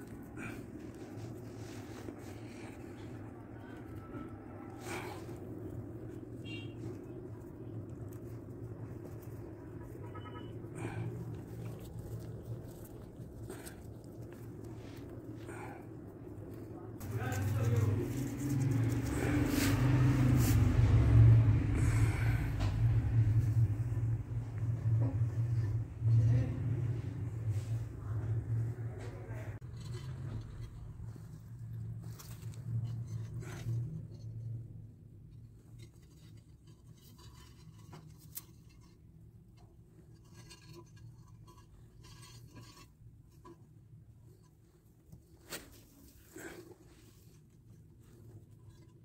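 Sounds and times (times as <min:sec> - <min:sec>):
low hum: 0:00.0 - 0:43.6
low steady rumble: 0:00.0 - 0:49.0
rubbing and scratching: 0:00.0 - 0:49.0.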